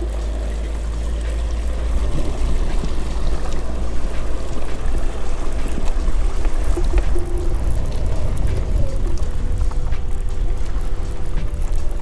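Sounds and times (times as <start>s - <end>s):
rushing water: 0.0s - 12.0s
wind buffeting microphone: 0.0s - 12.0s.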